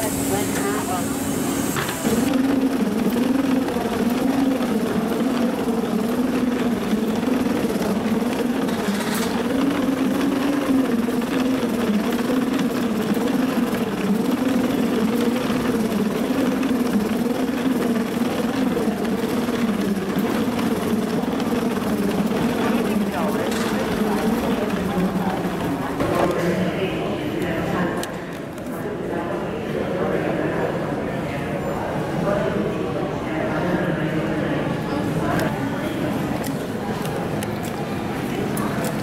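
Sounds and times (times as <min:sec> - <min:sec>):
moving walkway mechanical hum: 0:00.0 - 0:39.0.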